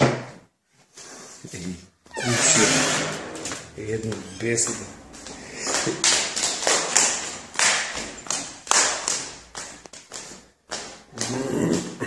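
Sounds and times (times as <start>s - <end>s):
footsteps down hard stairs: 2.2s - 12.0s.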